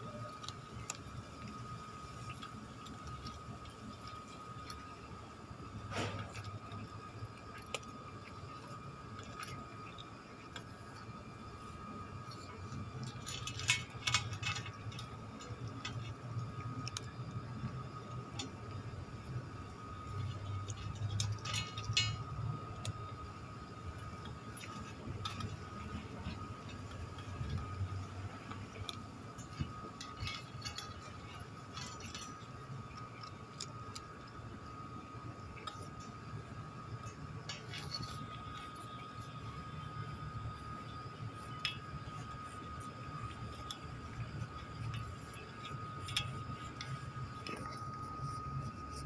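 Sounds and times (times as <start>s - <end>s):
cat crunching dry kibble: 0.0s - 49.0s
faint high hum: 0.0s - 49.0s.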